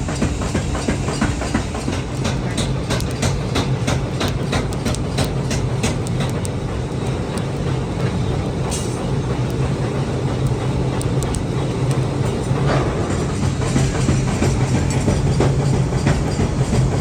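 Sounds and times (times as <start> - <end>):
low machine drone: 0.0 - 17.0.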